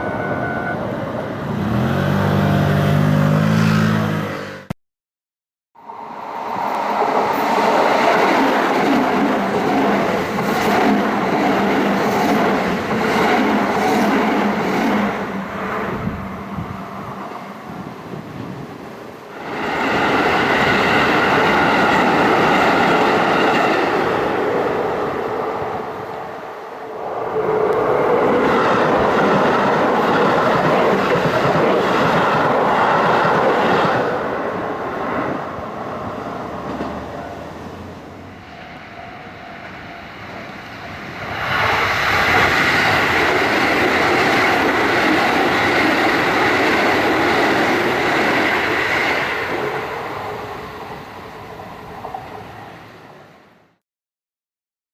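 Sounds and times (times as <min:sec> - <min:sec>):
electric trains passing: 0:00.0 - 0:04.6, 0:05.8 - 0:53.8.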